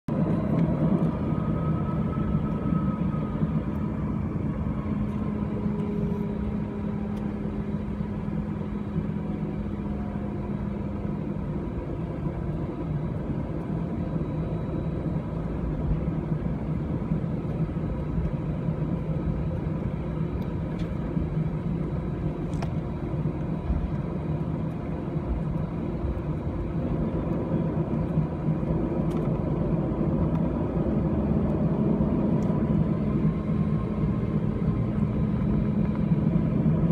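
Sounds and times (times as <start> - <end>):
airplane cabin rumble: 0.1 - 36.9
faint whining tones: 0.1 - 36.9
low hum: 0.1 - 36.9.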